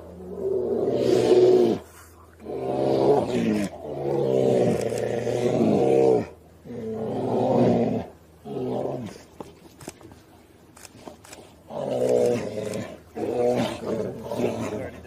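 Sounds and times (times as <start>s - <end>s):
bears roaring: 0.0s - 9.3s, 11.6s - 15.0s.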